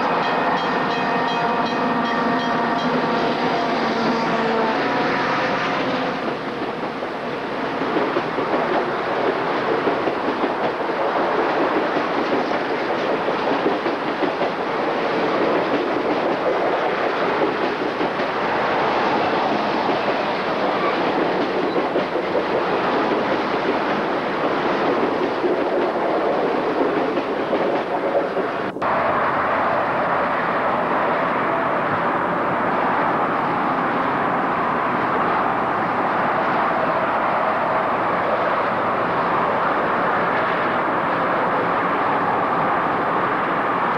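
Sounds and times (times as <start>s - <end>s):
train wheels rushing on rails: 0.0s - 43.9s.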